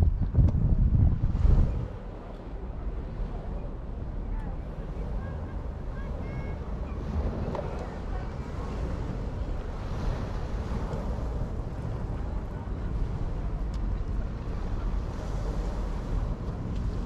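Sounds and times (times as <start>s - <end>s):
wind buffeting microphone: 0.0s - 17.0s
sea waves washing on shore: 1.0s - 17.0s.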